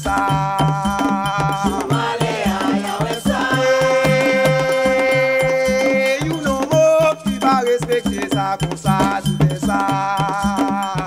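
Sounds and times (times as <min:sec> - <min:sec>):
drums and bass beat: 0:00.0 - 0:11.0
person singing: 0:00.0 - 0:11.0.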